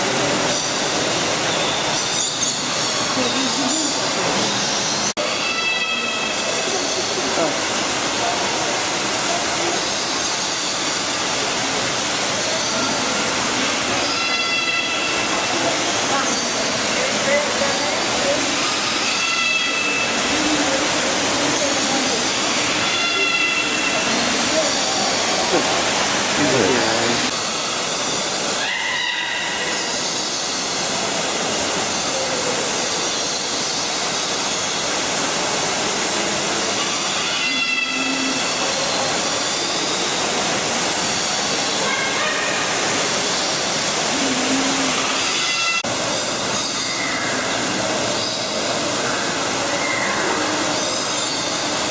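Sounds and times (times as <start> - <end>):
falling water rushing: 0.0 - 51.9.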